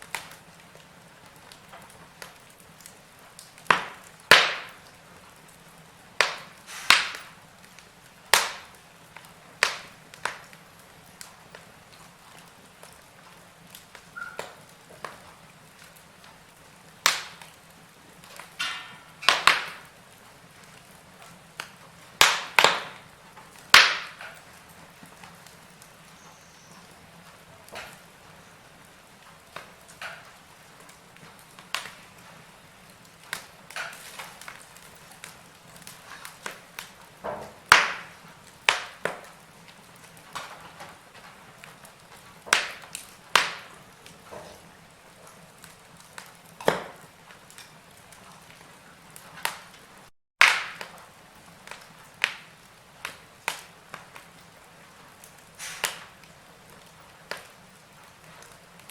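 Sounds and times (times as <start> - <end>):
faint steady hiss: 0.0 - 50.1
wood fire crackling: 0.0 - 58.9.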